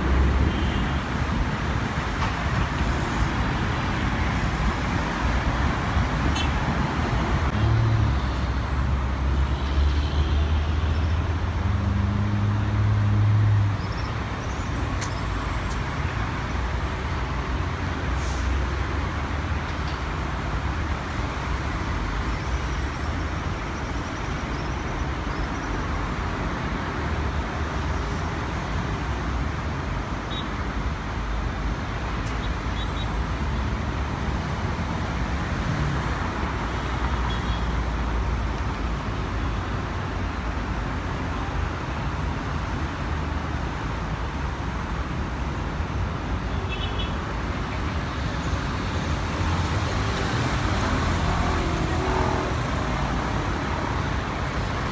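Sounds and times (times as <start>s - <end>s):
rumble of engines and traffic: 0.0s - 54.9s.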